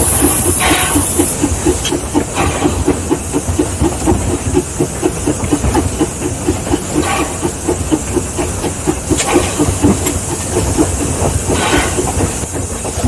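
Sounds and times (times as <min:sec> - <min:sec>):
steam locomotive exhaust chuffs: 0:00.0 - 0:13.0.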